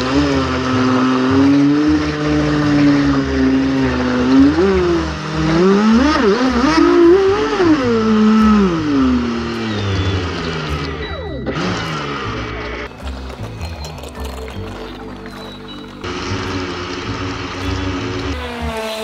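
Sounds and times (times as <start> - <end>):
model speedboat motor whining: 0.0 - 19.0.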